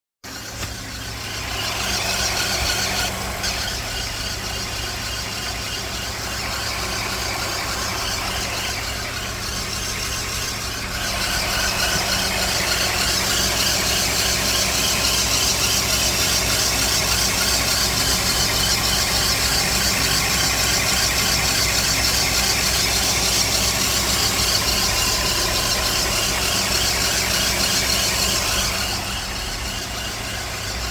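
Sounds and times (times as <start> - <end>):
car engine running: 0.2 - 30.9
high-pitched alternator squeal: 0.3 - 30.9.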